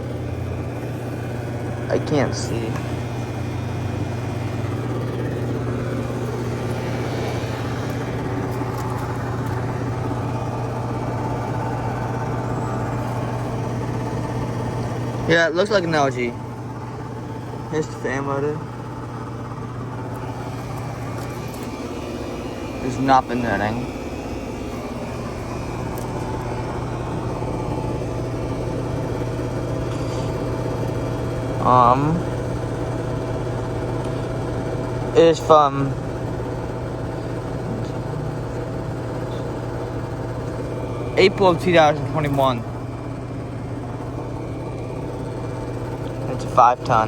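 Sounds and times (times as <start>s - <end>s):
compressor hum: 0.0s - 47.0s
condenser fan whoosh: 0.0s - 47.0s.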